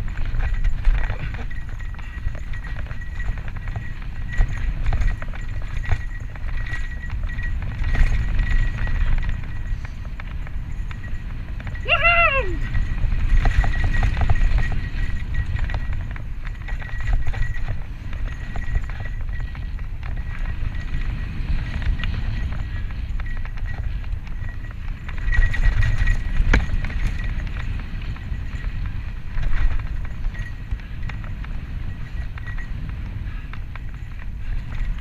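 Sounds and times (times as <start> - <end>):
bike clicks and rattles: 0.0 - 35.0
bike tyres rumbling on dirt: 0.0 - 35.0
wind buffeting camera: 0.0 - 35.0.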